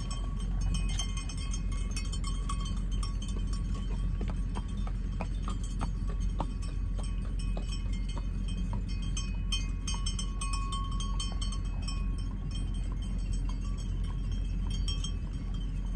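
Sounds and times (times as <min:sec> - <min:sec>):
sheep bells clinking: 0:00.0 - 0:15.9
steady low rumble: 0:00.0 - 0:15.9.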